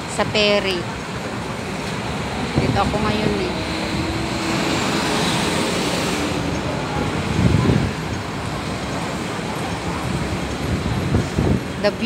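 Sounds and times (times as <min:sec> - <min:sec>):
road traffic passing: 0:00.0 - 0:12.0
wind on microphone: 0:00.0 - 0:12.0.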